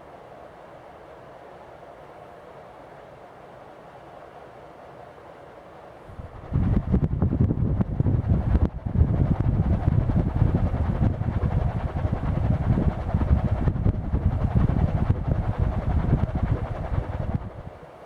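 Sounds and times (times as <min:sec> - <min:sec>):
ceiling fan air buffeting microphone: 0:00.0 - 0:18.0.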